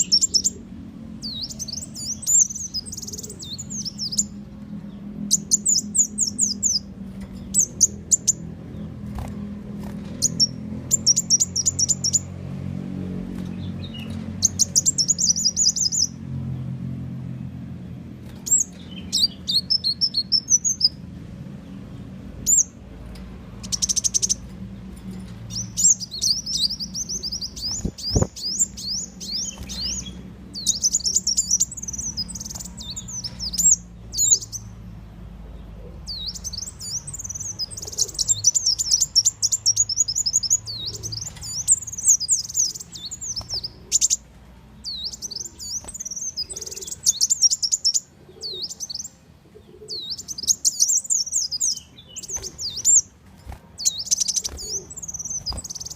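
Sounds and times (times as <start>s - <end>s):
bird chirping song: 0.0s - 55.9s.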